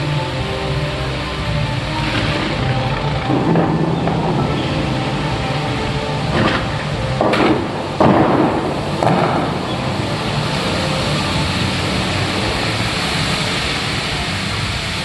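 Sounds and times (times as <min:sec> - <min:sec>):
fountain water jets rushing: 0:00.0 - 0:15.0
water surges: 0:00.0 - 0:15.0.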